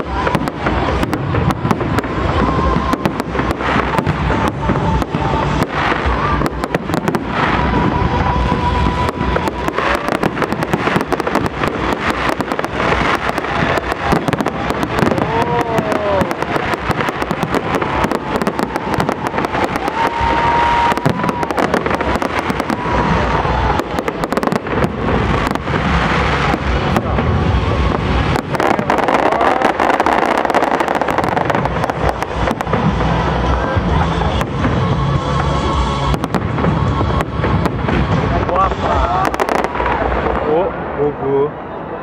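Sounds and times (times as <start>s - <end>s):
firework crackling: 0.0s - 42.0s.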